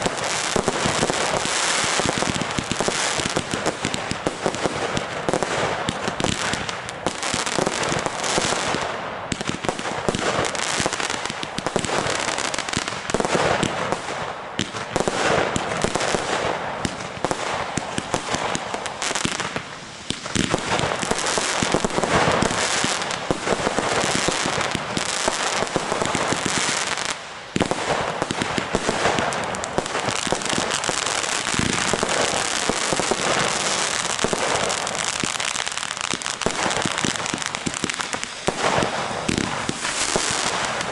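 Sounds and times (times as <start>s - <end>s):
fireworks and firecrackers popping: 0.0s - 40.9s.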